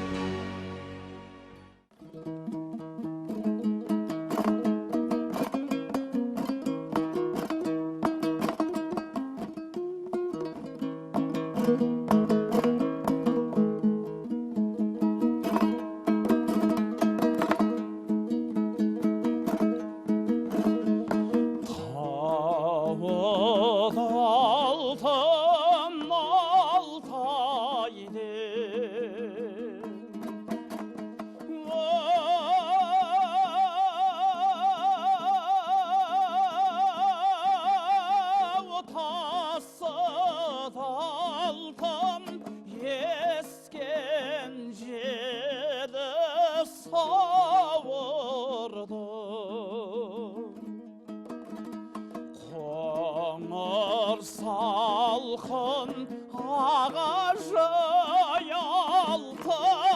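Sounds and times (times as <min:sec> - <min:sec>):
plucked strings: 0:00.0 - 0:59.9.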